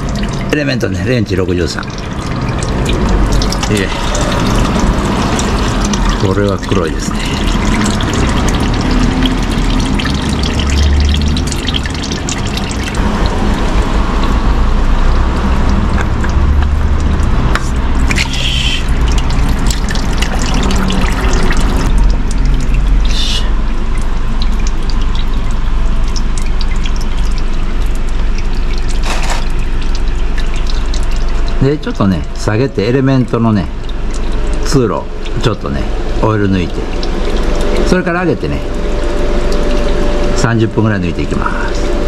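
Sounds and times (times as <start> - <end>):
oil trickling into a pan: 0.0 - 42.0.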